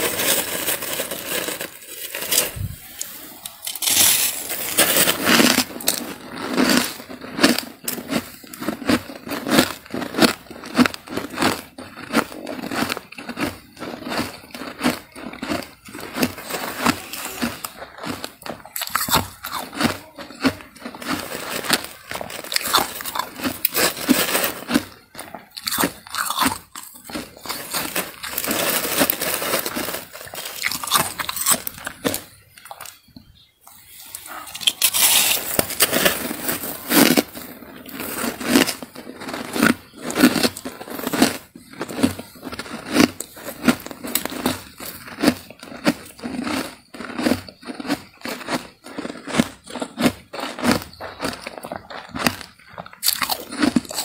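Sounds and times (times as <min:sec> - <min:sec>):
frost crunching in plastic bag: 0:00.0 - 0:54.0.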